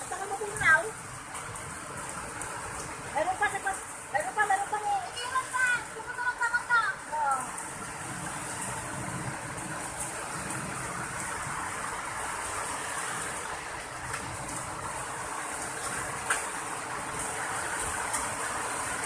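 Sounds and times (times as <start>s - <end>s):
hailstones ticking: 0.0s - 19.0s
heavy rain hissing: 0.0s - 19.0s.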